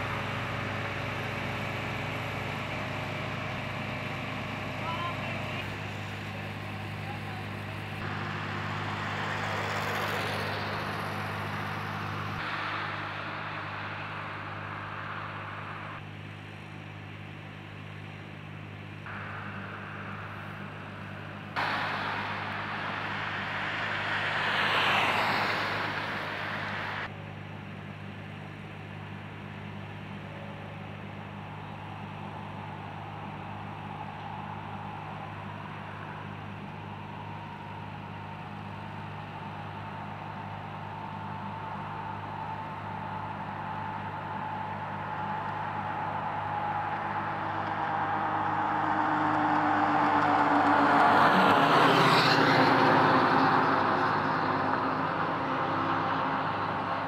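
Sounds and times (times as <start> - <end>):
low engine hum: 0.0 - 57.0
road traffic passing: 0.0 - 57.0.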